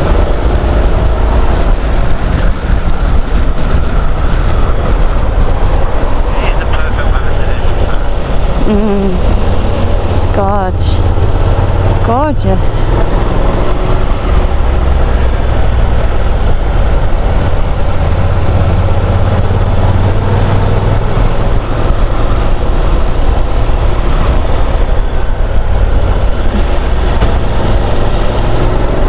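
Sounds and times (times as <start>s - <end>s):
motorcycle engine running: 0.0s - 29.0s
wind rush over microphone: 0.0s - 29.0s.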